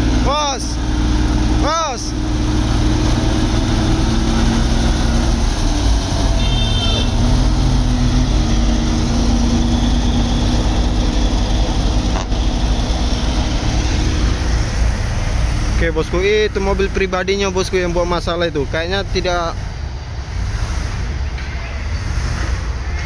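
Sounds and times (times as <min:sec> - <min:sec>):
diesel truck engine droning: 0:00.0 - 0:23.0.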